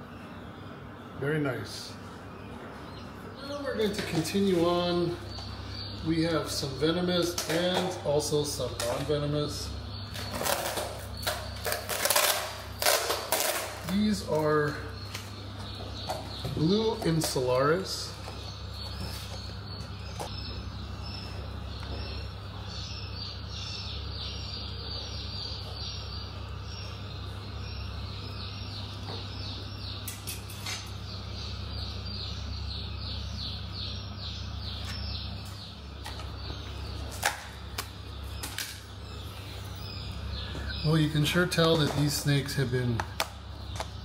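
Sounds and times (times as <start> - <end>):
rapid chirping: 0.0 - 44.0
steady low hum: 0.0 - 44.0.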